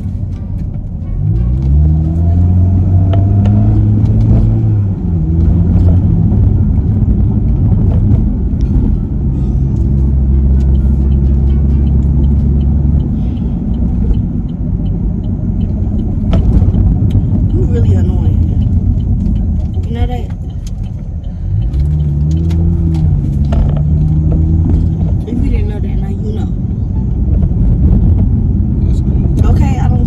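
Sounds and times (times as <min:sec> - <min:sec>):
car engine droning: 0:00.0 - 0:30.0
road rumble: 0:00.0 - 0:30.0.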